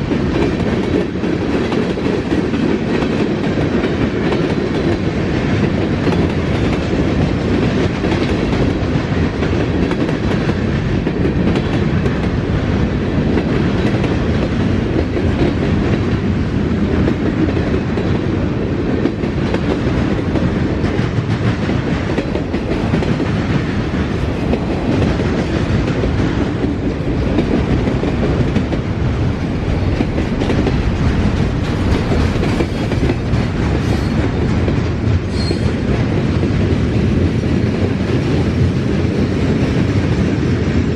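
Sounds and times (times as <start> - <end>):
freight train cars rolling: 0.0 - 40.9.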